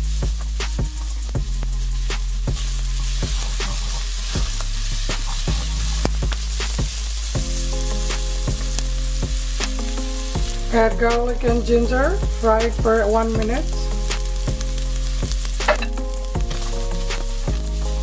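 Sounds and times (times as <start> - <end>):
background music with bass: 0.0 - 18.0
onion sizzling in oil: 0.0 - 18.0.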